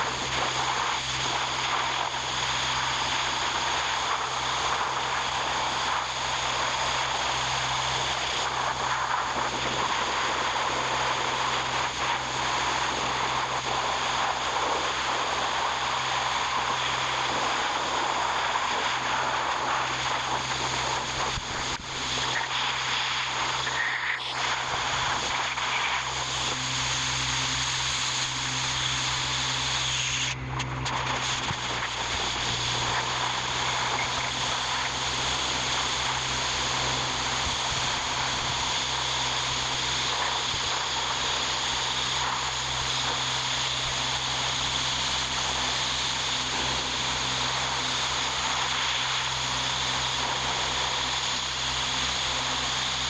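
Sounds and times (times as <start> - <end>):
machine hissing and humming: 0.0 - 53.0.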